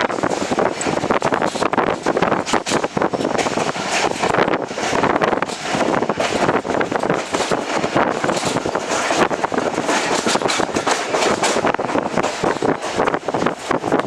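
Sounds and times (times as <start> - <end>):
coach rattling: 0.0 - 14.0
rushing air: 0.0 - 14.0
train wheels clattering over rails: 0.0 - 14.0.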